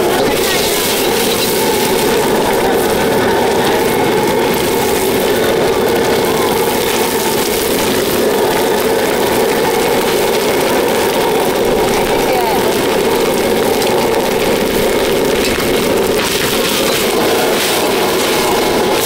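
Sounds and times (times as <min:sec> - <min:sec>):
cooking equipment roaring: 0:00.0 - 0:19.0.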